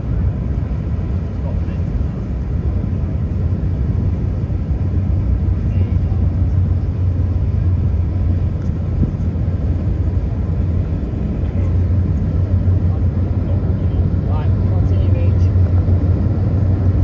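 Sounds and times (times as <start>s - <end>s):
ferry diesel engines rumbling: 0.0s - 17.0s.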